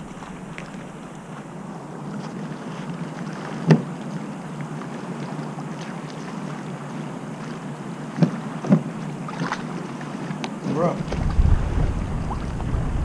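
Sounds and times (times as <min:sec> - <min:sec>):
water and wind rushing: 0:00.0 - 0:13.0.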